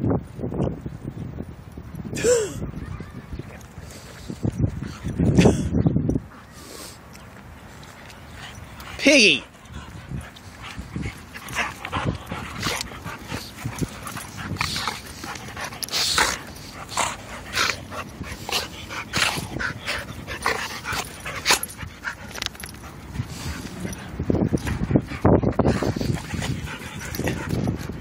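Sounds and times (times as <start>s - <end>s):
dogs play-fighting noises: 2.6s - 28.0s.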